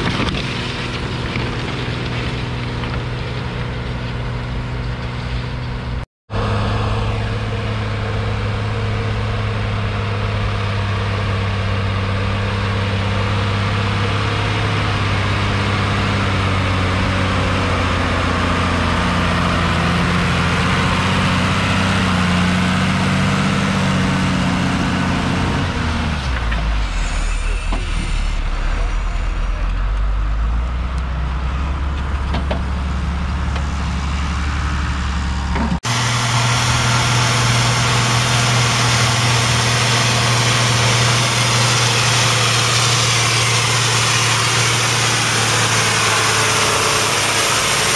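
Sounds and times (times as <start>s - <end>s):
diesel tractor engine under load: 0.0s - 47.9s.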